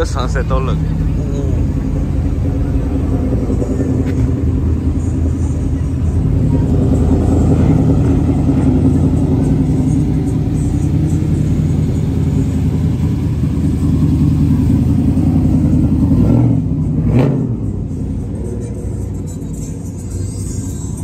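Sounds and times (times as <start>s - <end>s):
engine revving: 0.0s - 21.0s
truck exhaust rumble: 0.0s - 21.0s.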